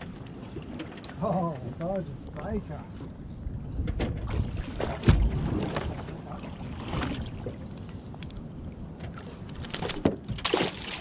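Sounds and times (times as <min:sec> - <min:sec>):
water against boat hull: 0:00.0 - 0:11.0
wind buffeting microphone: 0:01.4 - 0:10.4.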